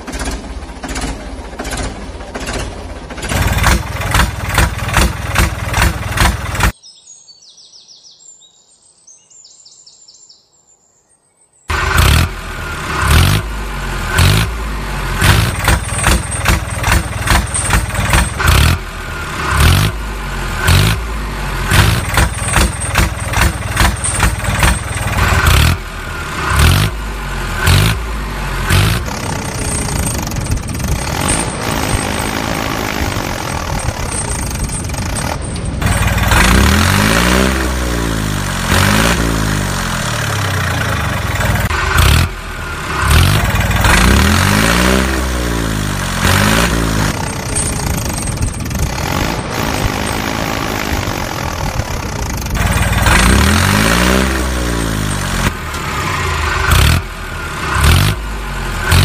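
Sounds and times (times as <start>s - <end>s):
engine chugging: 0.0s - 6.8s, 11.7s - 59.0s.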